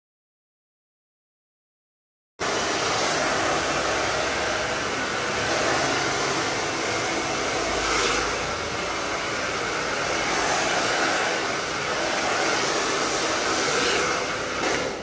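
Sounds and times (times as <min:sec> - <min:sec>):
hair dryer running: 0:02.4 - 0:15.0.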